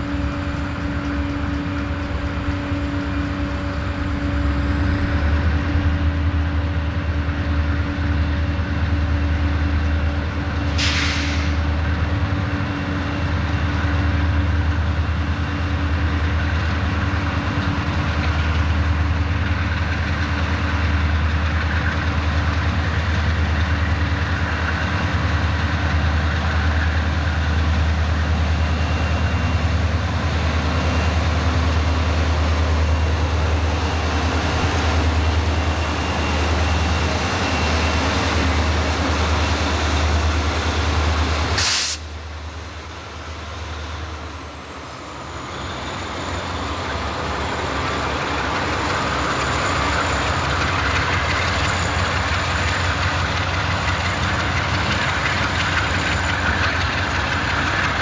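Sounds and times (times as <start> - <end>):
diesel locomotive engine drone: 0.0 - 58.0
train wheels on track: 0.0 - 58.0.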